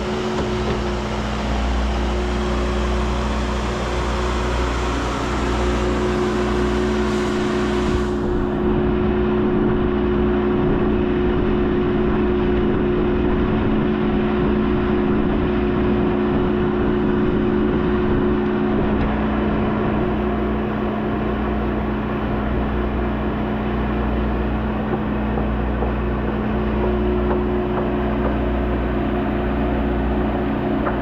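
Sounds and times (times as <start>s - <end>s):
skid steer engine running: 0.0s - 31.0s.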